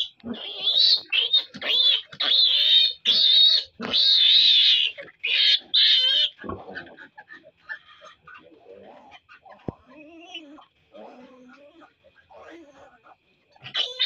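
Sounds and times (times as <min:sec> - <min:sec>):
piglet squealing: 0:00.0 - 0:14.0.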